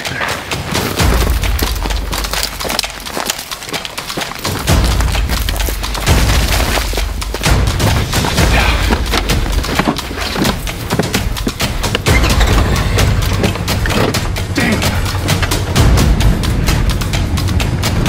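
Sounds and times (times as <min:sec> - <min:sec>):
hurried footsteps through scrub: 0:00.0 - 0:15.7.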